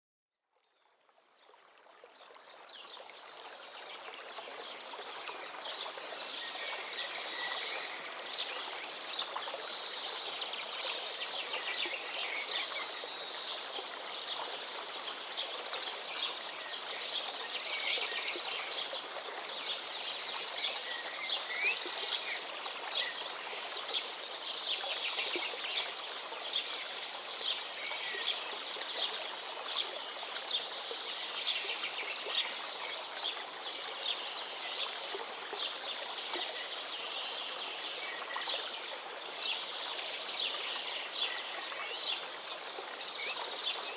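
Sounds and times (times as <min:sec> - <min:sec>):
hiss of rain or running water: 0:02.1 - 0:43.9.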